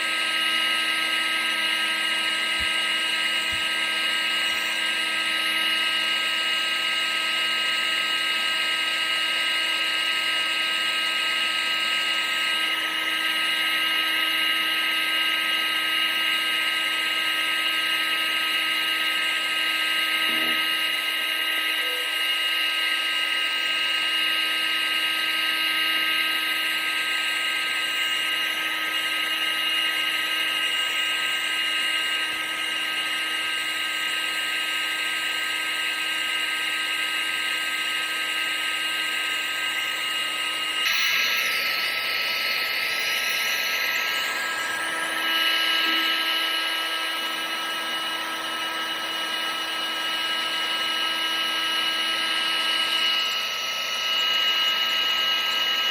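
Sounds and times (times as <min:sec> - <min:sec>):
electric blower motor whine: 0:00.0 - 0:55.9.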